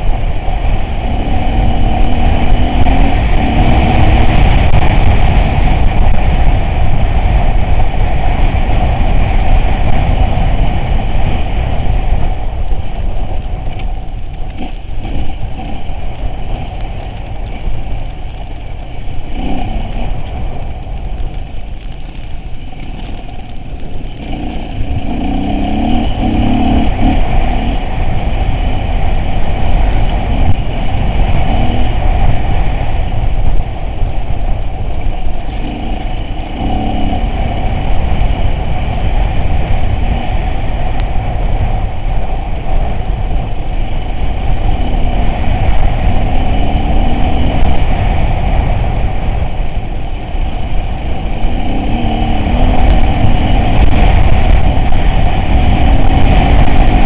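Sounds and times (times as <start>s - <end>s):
engine rough rumble: 0.0s - 57.0s.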